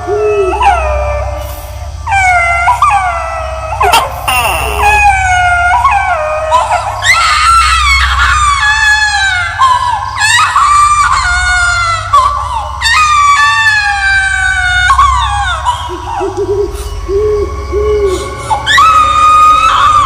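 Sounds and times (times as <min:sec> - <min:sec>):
low drone: 0:00.0 - 0:20.0
shrill wailing screams: 0:00.0 - 0:20.0.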